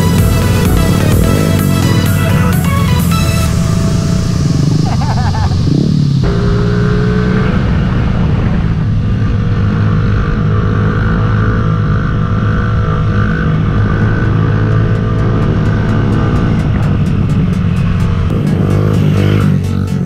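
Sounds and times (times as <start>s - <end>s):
mini bike engines running: 0.0s - 8.0s, 10.0s - 20.0s.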